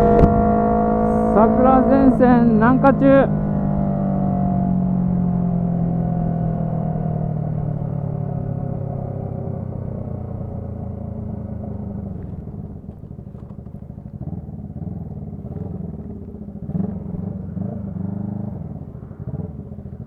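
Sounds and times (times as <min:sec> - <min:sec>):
motorcycle engine slowing: 0:00.0 - 0:20.0.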